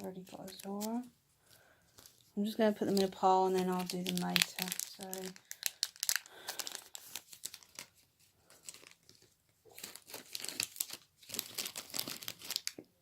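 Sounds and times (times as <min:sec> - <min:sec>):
foil wrapper tearing and crinkling: 0:00.0 - 0:01.0, 0:02.0 - 0:12.9.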